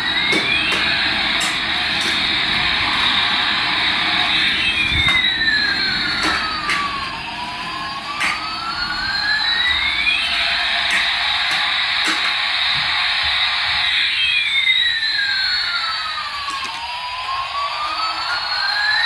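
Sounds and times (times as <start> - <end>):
toy jet engine sound effect: 0.0 - 19.0.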